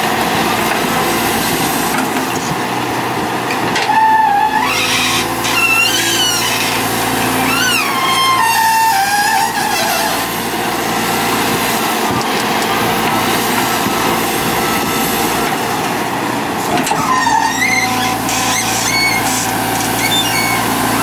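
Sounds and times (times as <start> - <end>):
excavator diesel engine running: 0.0 - 21.0
hydraulic whine: 3.7 - 21.0.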